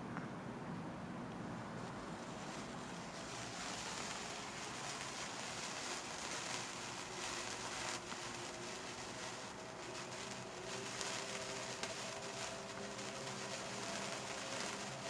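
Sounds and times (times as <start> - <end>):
firework hissing and crackling: 1.6 - 15.0.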